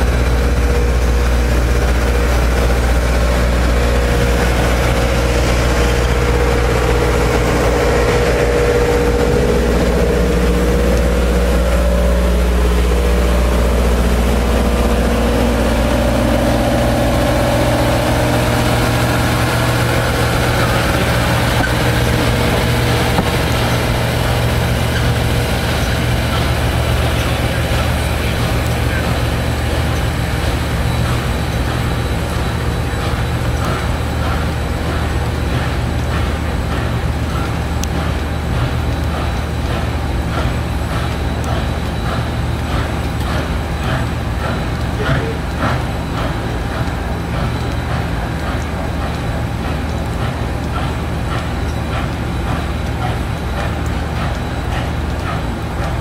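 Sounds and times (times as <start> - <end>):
low mechanical hum: 0.0 - 56.0
train coaches rolling on track: 0.0 - 56.0.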